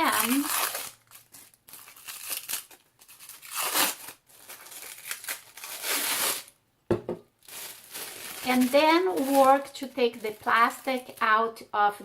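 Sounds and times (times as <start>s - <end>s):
plastic sheet crinkling: 0.0s - 6.6s, 7.4s - 11.4s.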